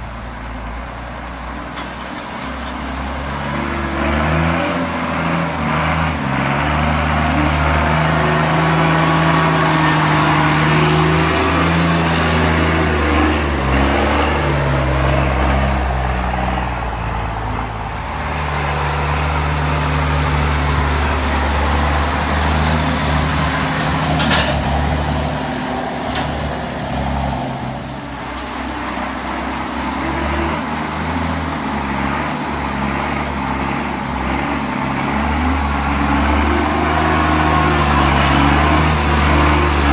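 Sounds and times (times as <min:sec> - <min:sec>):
tractor diesel engine working hard: 0:00.0 - 0:39.9.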